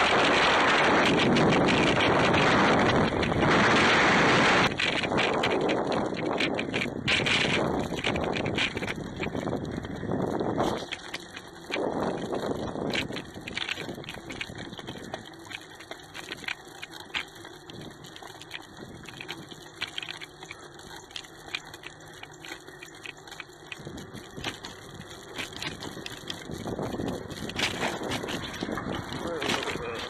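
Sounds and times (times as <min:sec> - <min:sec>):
bicycle rolling: 0:00.0 - 0:30.0
small clicks and rattles: 0:00.0 - 0:30.0
wind noise: 0:00.0 - 0:30.0.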